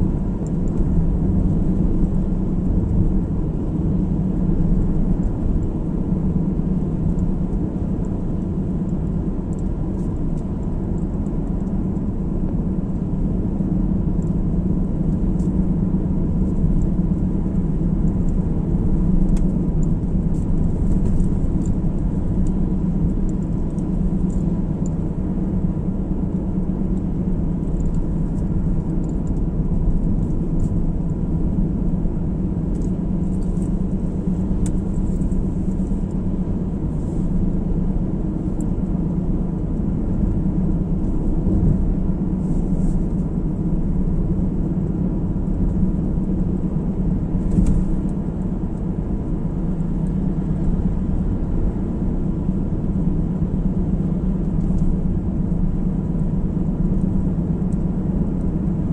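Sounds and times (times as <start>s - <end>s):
car interior road rumble: 0.0s - 58.9s
faint steady whine: 0.0s - 58.9s.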